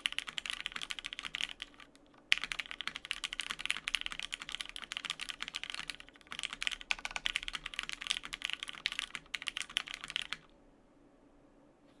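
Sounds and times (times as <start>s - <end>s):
mechanical keyboard typing: 0.0s - 10.5s.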